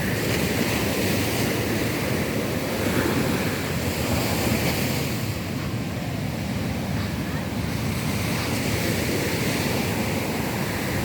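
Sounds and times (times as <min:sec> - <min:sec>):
sea surf breaking on beach: 0:00.0 - 0:11.0
wind rumbling on microphone: 0:00.0 - 0:11.0.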